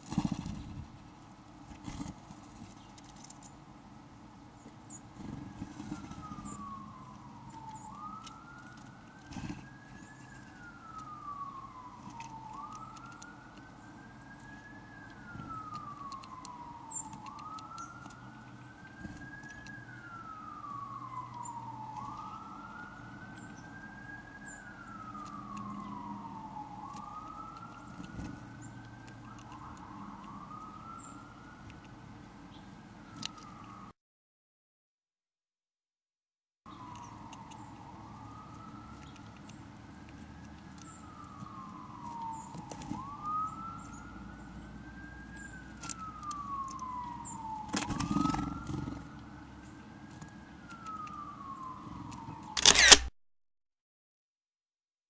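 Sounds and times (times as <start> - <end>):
siren wailing: 5.2 - 32.1, 33.0 - 33.9, 36.7 - 53.1.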